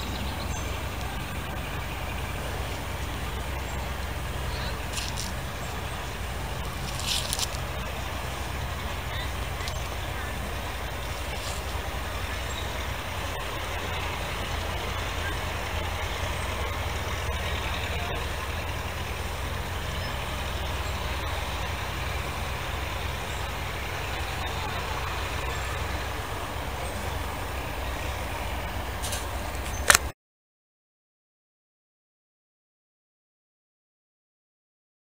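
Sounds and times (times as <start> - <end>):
diesel engine rumbling: 0.0 - 30.2.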